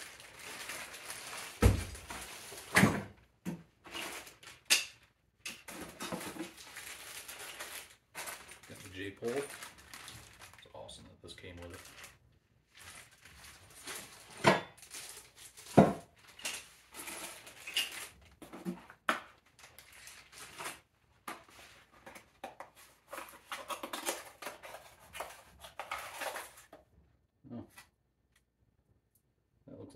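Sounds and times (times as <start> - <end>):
plastic bags crinkling: 0.0 - 26.7
cardboard packaging rustling: 0.0 - 26.8.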